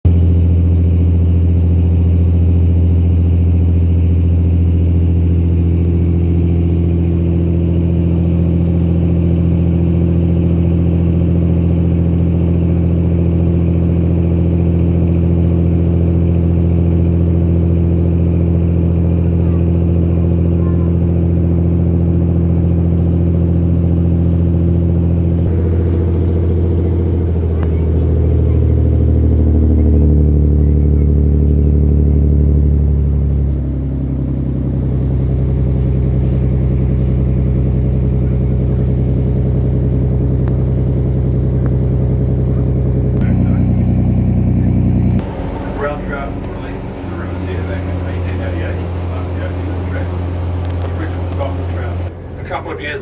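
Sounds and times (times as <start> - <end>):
large engine droning: 0.0 - 53.0.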